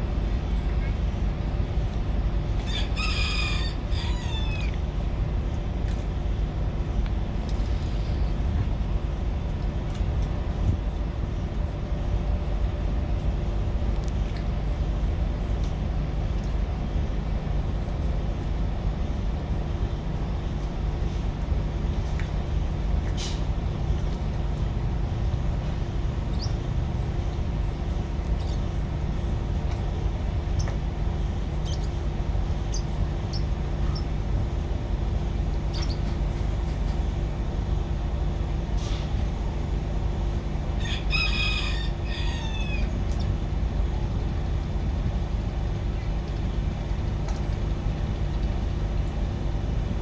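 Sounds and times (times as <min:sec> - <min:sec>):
marine engine drone: 0:00.0 - 0:50.0.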